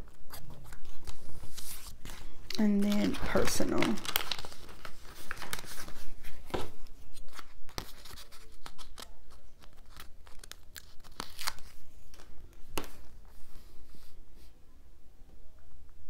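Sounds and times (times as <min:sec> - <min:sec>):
sticker sheet crinkling: 0:00.0 - 0:13.1.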